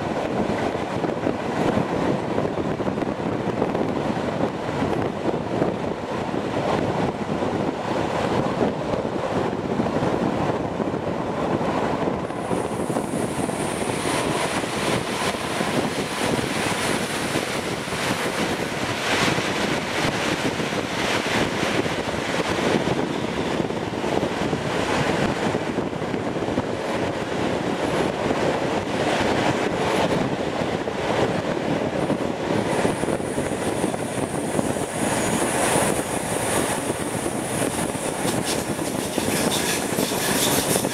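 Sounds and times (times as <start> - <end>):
train wheels rushing on rail: 0.0 - 40.9.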